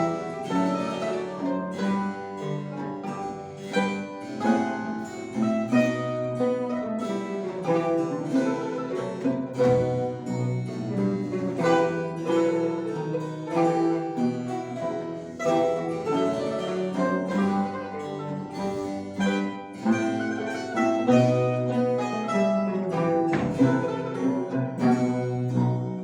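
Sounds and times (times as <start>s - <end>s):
mandolin ensemble playing: 0.0s - 26.0s.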